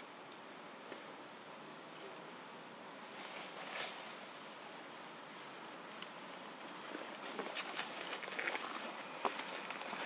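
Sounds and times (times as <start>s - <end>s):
constant high-pitched tone: 0.0s - 3.4s, 4.0s - 10.0s
steady hiss: 0.0s - 10.0s.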